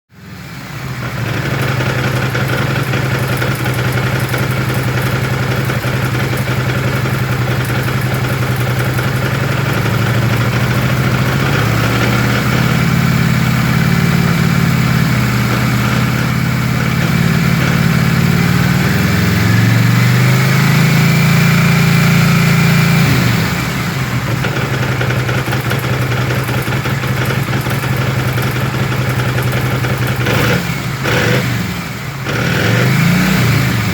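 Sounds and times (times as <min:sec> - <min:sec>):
motorcycle engine idling and revving: 0:00.1 - 0:33.9
strange engine noise: 0:00.1 - 0:33.9.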